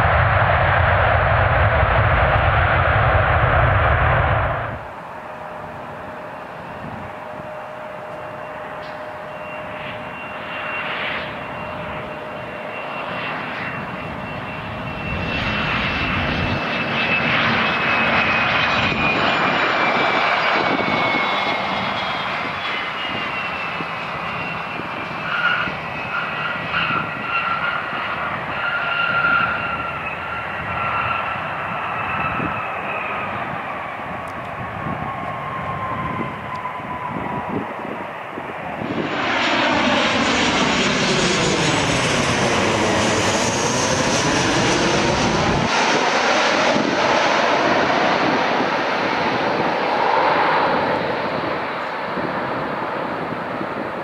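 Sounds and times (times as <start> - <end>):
jet engine roar: 0.0 - 54.0
jet engine whine: 0.0 - 54.0.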